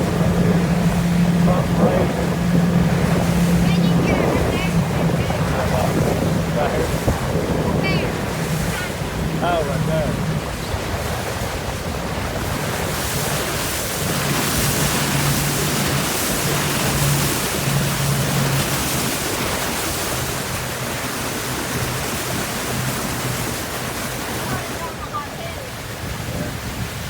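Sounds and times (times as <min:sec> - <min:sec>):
boat motor humming: 0:00.0 - 0:27.0
water noise from moving boat: 0:00.0 - 0:27.0
wind on microphone: 0:00.0 - 0:27.0.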